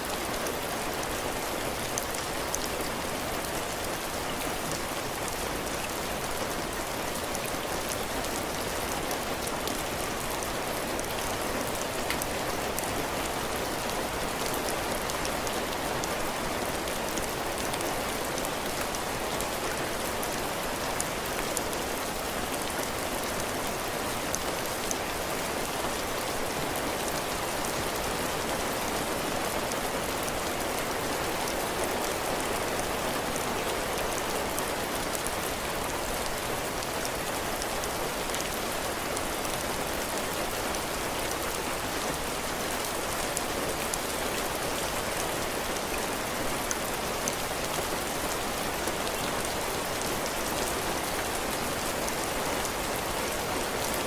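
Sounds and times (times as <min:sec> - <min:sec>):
heavy rain on a porch roof: 0:00.0 - 0:54.0.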